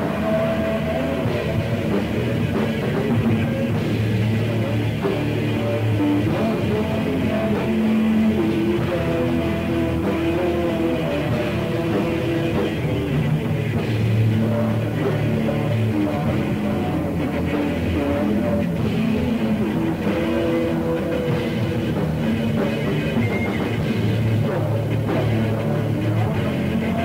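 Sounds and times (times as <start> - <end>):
black metal music: 0.0 - 27.0.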